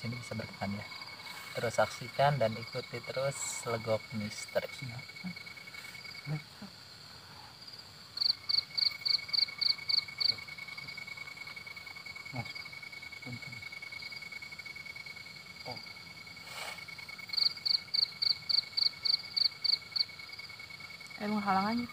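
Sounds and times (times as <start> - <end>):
cricket loud chirps: 0.0 - 21.9
cricket steady high trill: 0.0 - 21.9.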